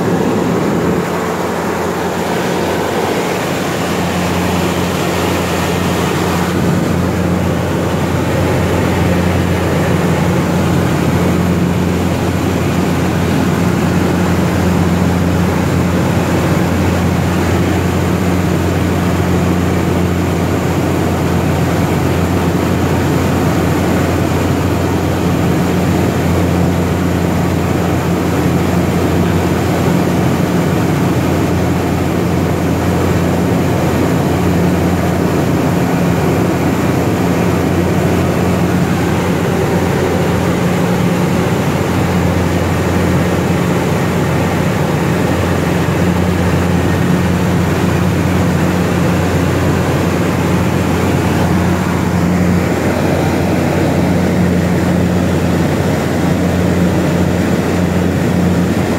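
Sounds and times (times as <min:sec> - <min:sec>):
turboprop engine low drone: 0:00.0 - 0:58.9.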